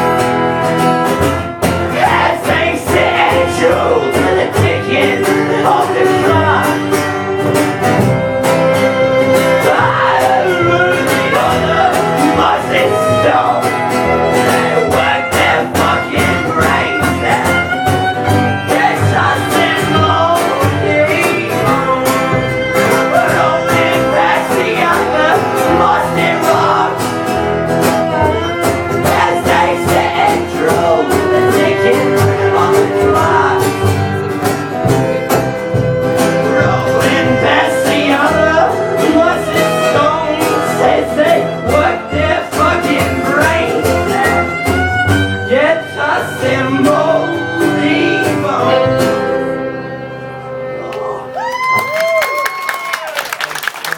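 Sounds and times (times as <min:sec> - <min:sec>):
live band playing: 0:00.0 - 0:53.8
person singing: 0:01.7 - 0:51.4.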